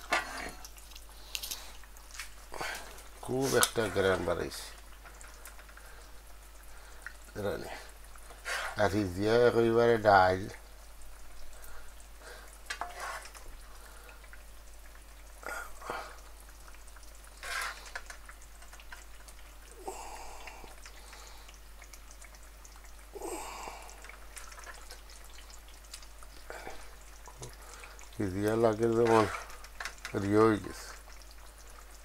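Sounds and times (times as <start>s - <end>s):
low room noise: 0.0s - 32.0s.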